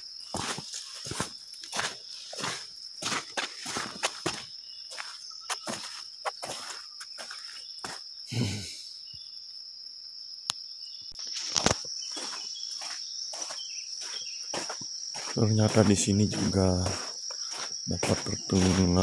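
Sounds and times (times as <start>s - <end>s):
footsteps on muddy dirt: 0.0s - 8.1s, 11.3s - 19.0s
insect chorus drone: 0.0s - 19.0s.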